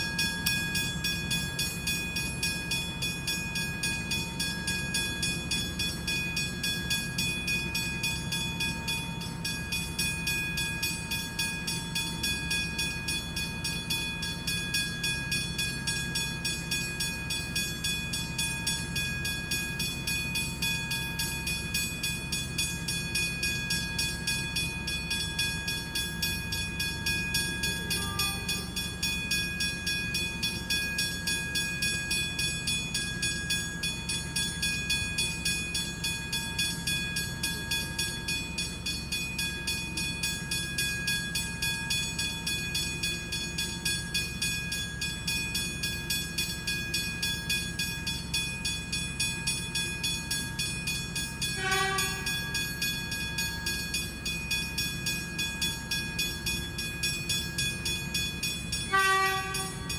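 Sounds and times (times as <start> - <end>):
level-crossing bells ringing: 0.0 - 59.9.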